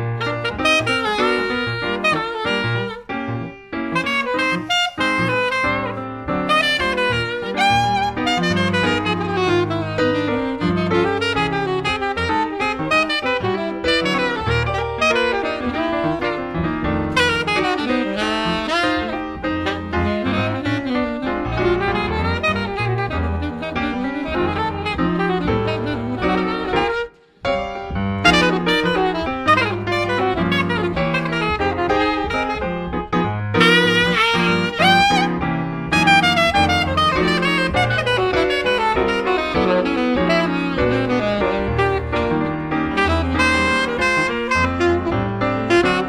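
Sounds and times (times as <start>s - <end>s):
jazz saxophone: 0.0s - 46.0s
piano accompaniment: 0.0s - 46.0s.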